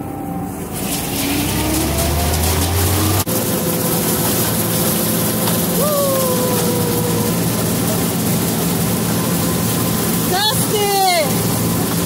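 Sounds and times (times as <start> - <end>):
combine harvester drone: 0.0 - 12.0
machine whine: 0.0 - 12.0.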